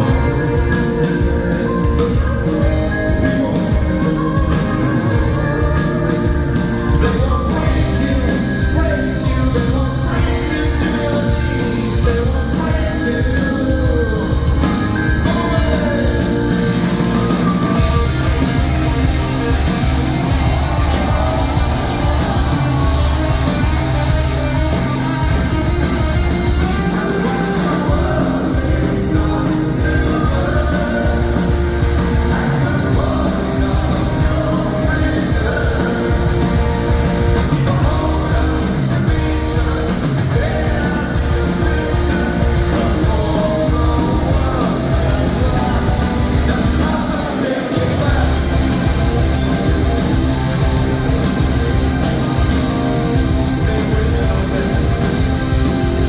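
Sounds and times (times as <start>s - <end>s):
person singing: 0.0s - 56.0s
rock band playing: 0.0s - 56.0s.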